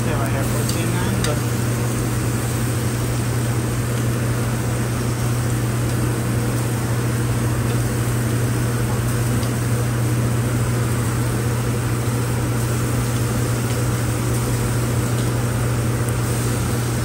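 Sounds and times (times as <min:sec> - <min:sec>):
chicken grilling on a broiler: 0:00.0 - 0:17.0
kitchen ventilation hum: 0:00.0 - 0:17.0.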